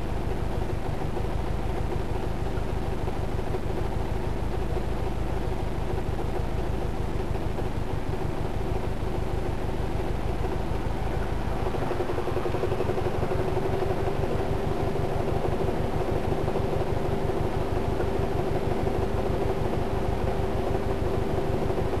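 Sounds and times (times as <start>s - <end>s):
car engine knocking: 0.0s - 22.0s.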